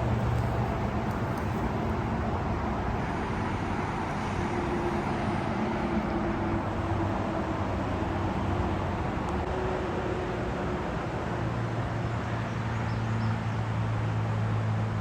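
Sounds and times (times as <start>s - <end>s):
highway traffic noise: 0.0s - 15.0s.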